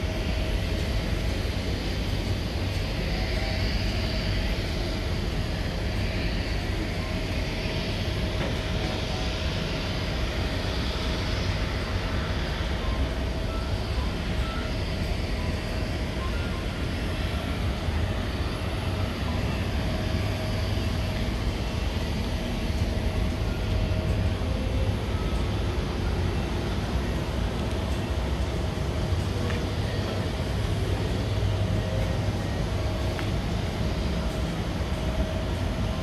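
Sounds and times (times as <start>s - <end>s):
jet engine whine: 0.0s - 36.0s.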